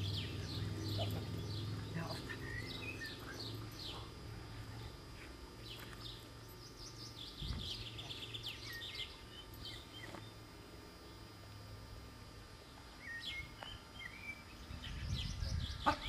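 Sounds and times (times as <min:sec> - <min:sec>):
small birds chirping: 0:00.0 - 0:11.3, 0:12.5 - 0:16.0
low steady hum: 0:00.0 - 0:16.0.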